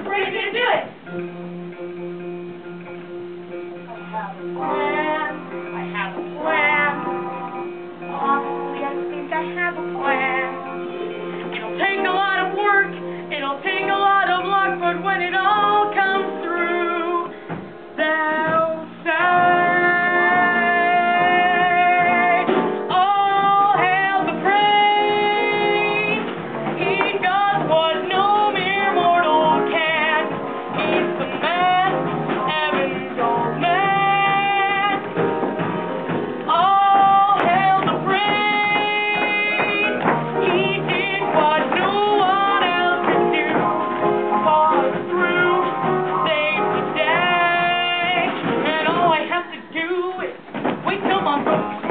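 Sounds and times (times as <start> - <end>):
guitar accompaniment: 0.0 - 51.9.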